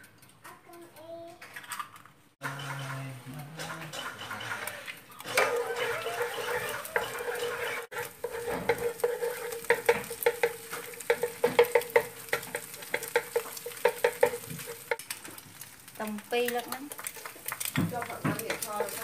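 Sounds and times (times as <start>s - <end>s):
spatula scraping a pan: 2.4s - 15.7s, 16.9s - 19.0s
egg sizzling in hot oil: 3.6s - 19.0s.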